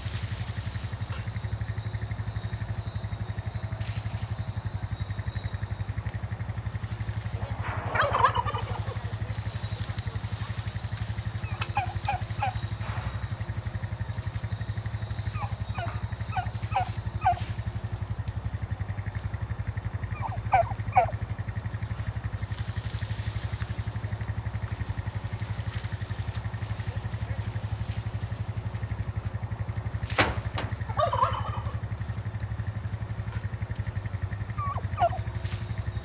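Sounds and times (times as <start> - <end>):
poultry calling: 0.0 - 36.0
small engine running: 0.0 - 36.0.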